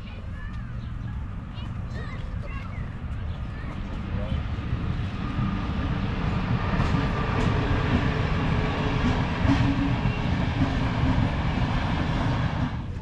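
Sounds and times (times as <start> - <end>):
train passing rumble: 0.0 - 13.0.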